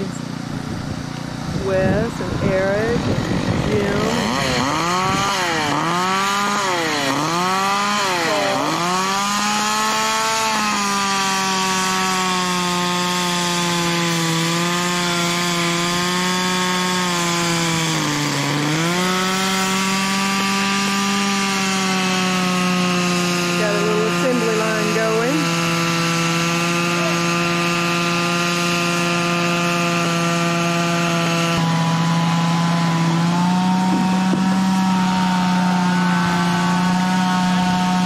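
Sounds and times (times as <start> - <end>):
chainsaw cutting branches: 0.0 - 38.0.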